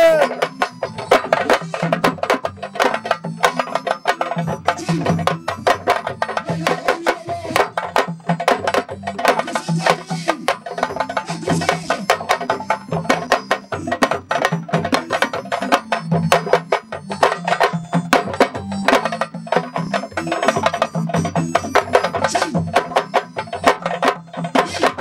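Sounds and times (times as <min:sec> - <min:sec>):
drums played fast and hard: 0:00.0 - 0:25.0.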